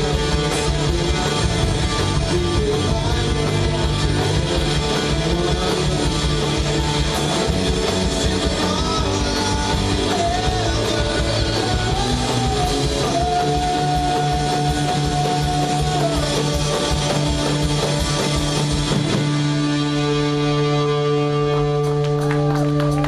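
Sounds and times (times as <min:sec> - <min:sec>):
lead guitar bending: 0:00.0 - 0:23.0
rock band playing: 0:00.0 - 0:23.0.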